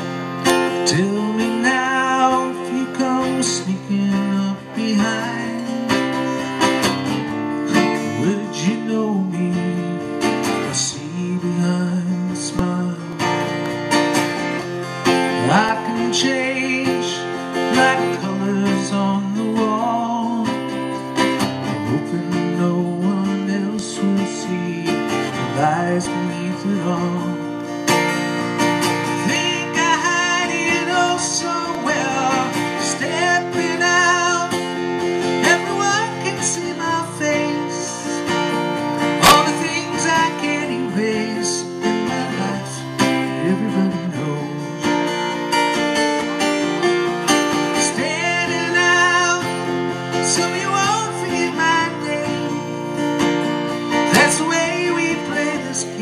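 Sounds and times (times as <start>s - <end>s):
strummed acoustic guitar: 0.0s - 56.0s
man singing: 0.7s - 6.8s, 7.6s - 13.5s, 15.3s - 27.8s, 29.0s - 45.5s, 47.2s - 53.1s, 53.9s - 56.0s.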